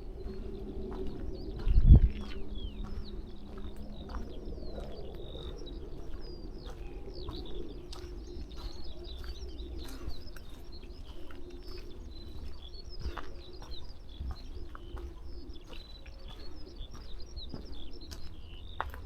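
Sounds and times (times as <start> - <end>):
birds cooing: 0.0 - 19.0
birds twittering: 0.0 - 19.0.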